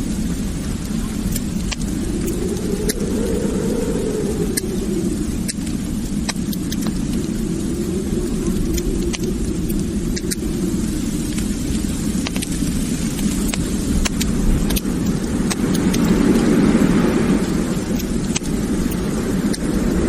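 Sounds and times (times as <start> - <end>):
low rumble of fireplace flames: 0.0 - 20.0
wood fire crackles and pops: 0.0 - 20.0.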